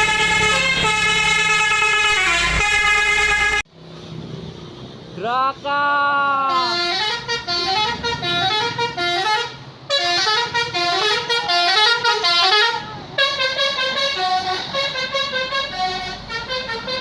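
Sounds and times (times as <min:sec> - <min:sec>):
bus horn playing a tune: 0:00.0 - 0:03.7, 0:06.5 - 0:17.0.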